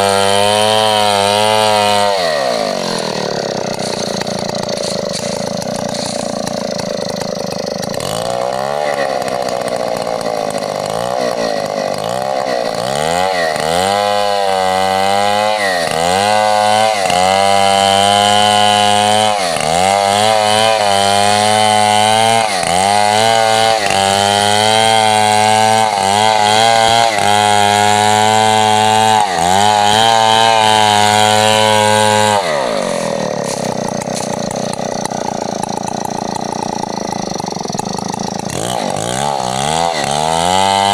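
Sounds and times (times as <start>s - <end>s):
chainsaw revving and idling: 0.0s - 40.9s.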